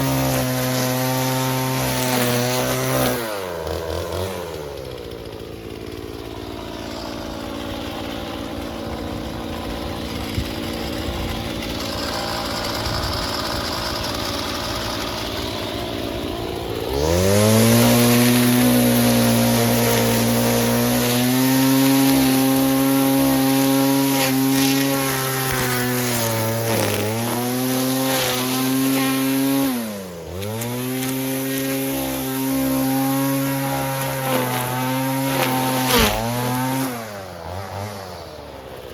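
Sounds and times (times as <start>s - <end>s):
string trimmer engine revving: 0.0s - 38.9s.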